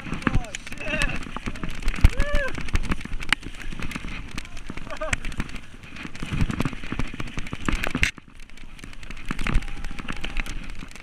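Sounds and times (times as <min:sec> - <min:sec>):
mountain bike rattling: 0:00.0 - 0:11.0
tyre noise on dirt: 0:00.0 - 0:11.0.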